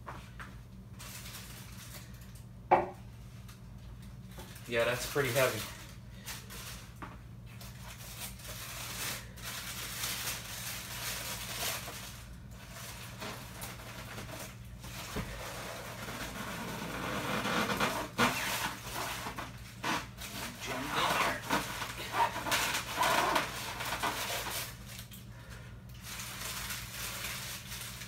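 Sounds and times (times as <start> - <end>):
low electrical hum: 0.0 - 28.0
packaging rustling and handling: 0.9 - 2.4, 4.2 - 28.0.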